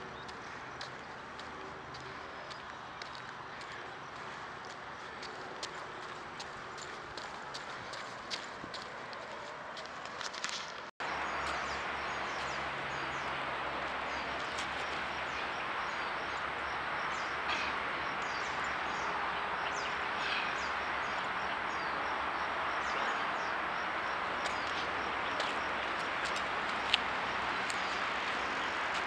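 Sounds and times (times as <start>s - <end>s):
small birds chirping: 0.0s - 8.5s, 11.0s - 29.0s.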